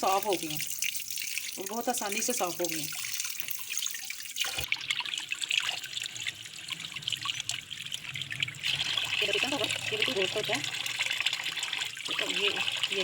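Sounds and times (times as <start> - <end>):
tap water trickling and splashing: 0.0 - 13.0.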